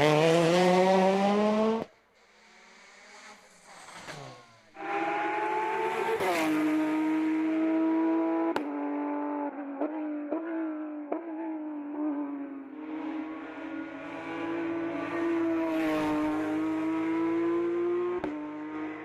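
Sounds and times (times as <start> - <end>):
race car engine at high revs: 0.0 - 19.0.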